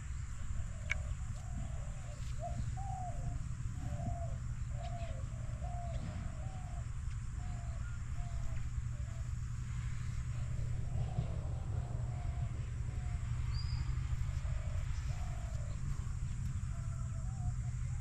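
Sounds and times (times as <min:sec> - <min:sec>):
bird hooting: 0:00.0 - 0:18.0
low background rumble: 0:00.0 - 0:18.0.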